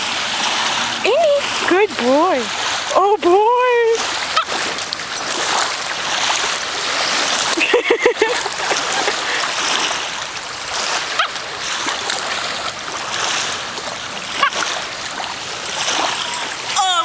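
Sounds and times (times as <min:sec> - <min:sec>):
lake water lapping on shore: 0:00.0 - 0:17.0.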